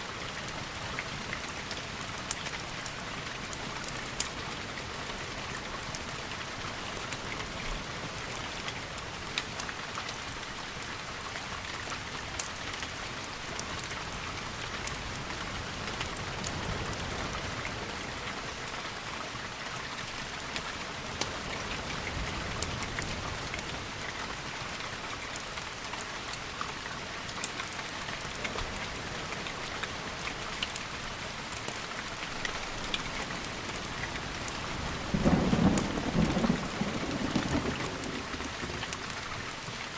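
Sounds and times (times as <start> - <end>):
steady rain: 0.0 - 39.9
raindrop ticks: 0.1 - 19.0, 20.1 - 39.9.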